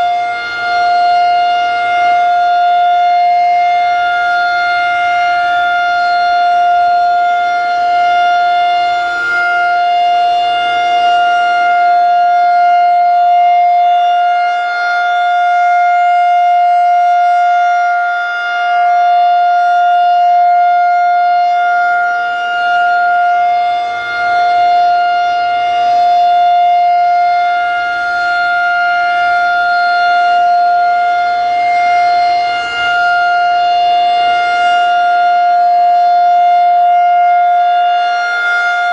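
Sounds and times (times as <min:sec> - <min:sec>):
rotating tornado siren: 0:00.0 - 0:38.9.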